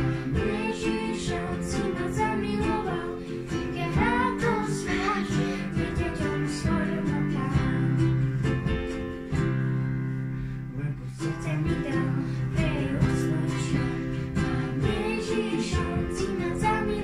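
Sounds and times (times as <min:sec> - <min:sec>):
girl singing: 0:00.0 - 0:09.9, 0:10.8 - 0:17.0
piano: 0:00.0 - 0:17.0
strummed ukulele: 0:00.0 - 0:17.0.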